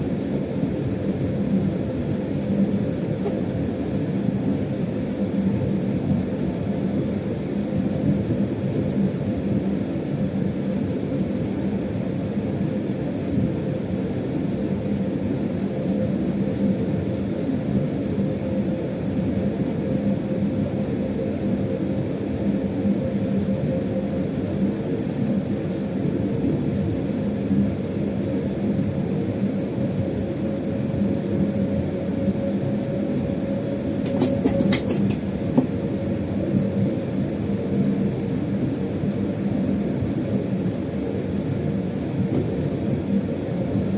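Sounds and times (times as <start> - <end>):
constant hum: 0.0 - 43.9.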